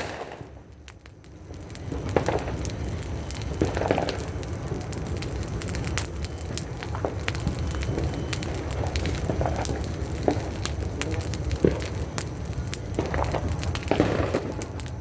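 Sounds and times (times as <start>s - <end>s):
firecrackers crackling and popping: 0.0s - 15.0s.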